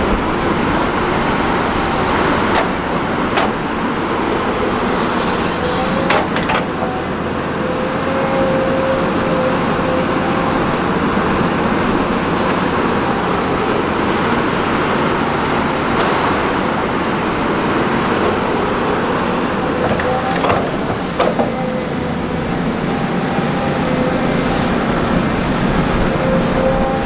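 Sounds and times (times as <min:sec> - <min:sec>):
heavy machinery diesel engines: 0:00.0 - 0:27.0.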